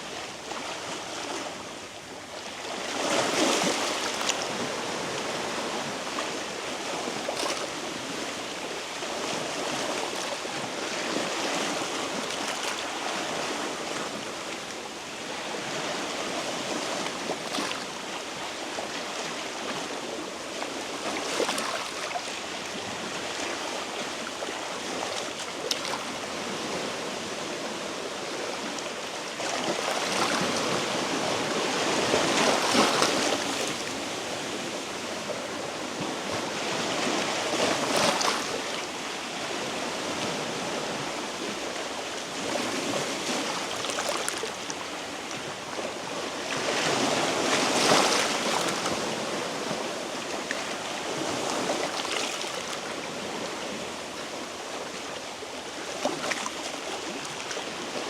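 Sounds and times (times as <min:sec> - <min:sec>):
sea waves washing over rocks: 0:02.7 - 0:58.0.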